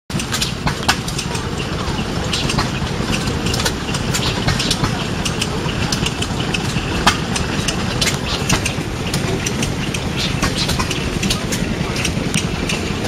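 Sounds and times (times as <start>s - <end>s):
diesel engine idling: 0.1s - 13.0s
sharp clicks: 0.2s - 13.0s.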